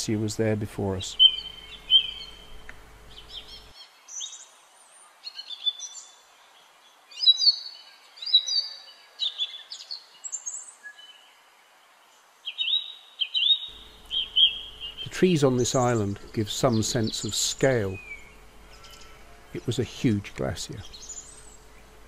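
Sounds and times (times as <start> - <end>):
faint outdoor hiss: 0.0 - 22.0
songbirds chirping: 0.0 - 22.0.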